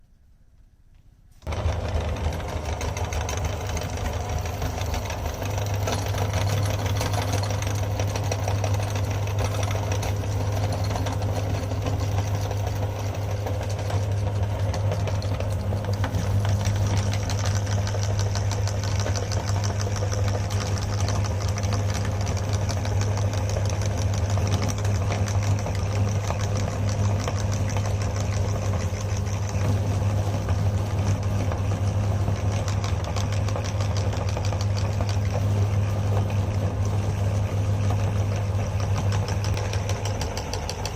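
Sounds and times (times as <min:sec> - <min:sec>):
electric meat grinder running: 0:01.4 - 0:40.9
grinding crackle: 0:01.4 - 0:40.9.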